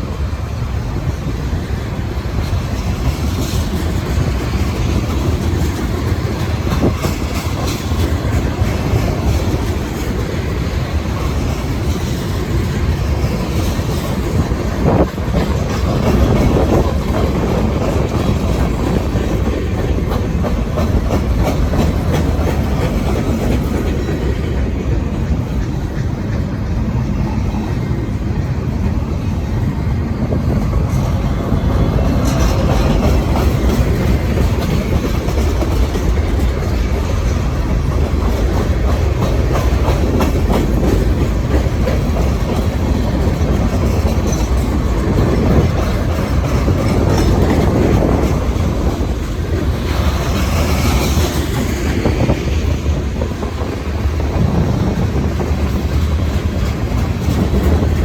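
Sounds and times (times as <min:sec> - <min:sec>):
freight train rumbling past: 0:00.0 - 0:58.0
wheels clicking over rail joints: 0:00.1 - 0:27.0, 0:28.8 - 0:58.0.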